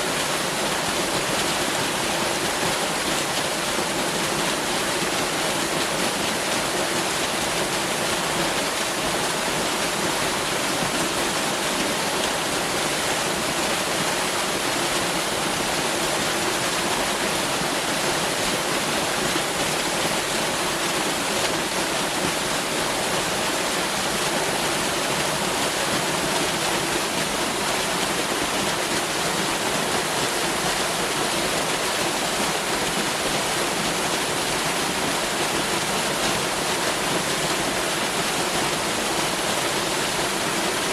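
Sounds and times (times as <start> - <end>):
waterfall pouring: 0.0 - 40.9.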